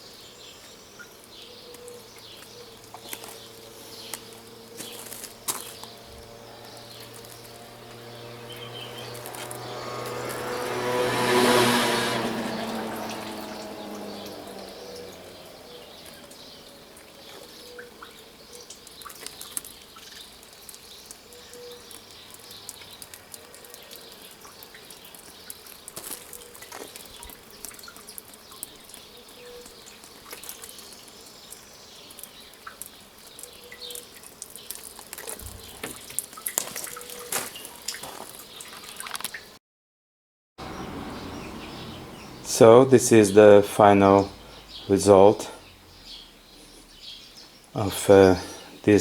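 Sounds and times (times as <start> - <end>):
water dripping and splashing: 0.0 - 39.6.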